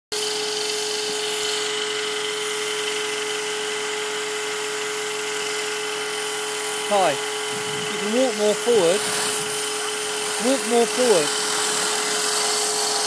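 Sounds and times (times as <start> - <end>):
power tool motor whine: 0.1 - 13.0.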